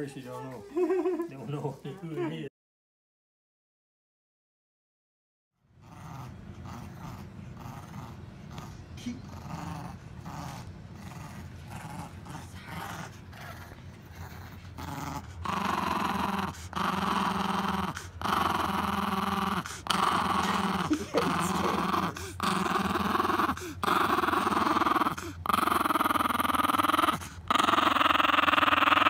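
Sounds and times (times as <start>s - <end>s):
small dog growling: 5.7s - 29.0s.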